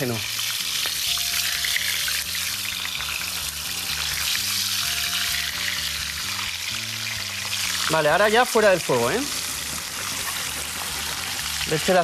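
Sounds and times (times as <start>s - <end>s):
fish frying in oil: 0.0s - 12.0s.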